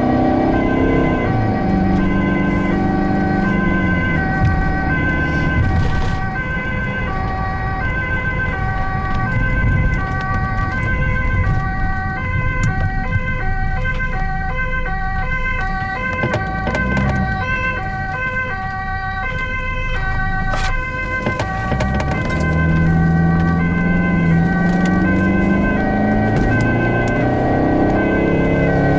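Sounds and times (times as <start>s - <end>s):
ambulance two-tone siren: 0.0s - 28.9s
vehicle road and engine rumble: 0.0s - 28.9s.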